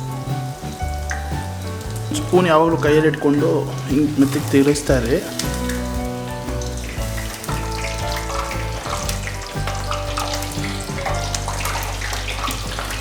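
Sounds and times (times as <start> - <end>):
background music with bass: 0.0 - 13.0
food deep-frying in oil: 0.0 - 13.0.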